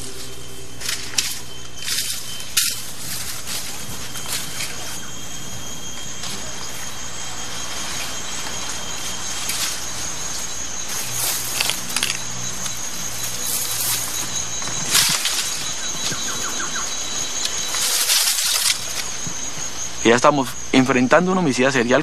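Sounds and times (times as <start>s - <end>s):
high insect buzz: 0.0s - 22.0s
low drone: 0.0s - 22.0s.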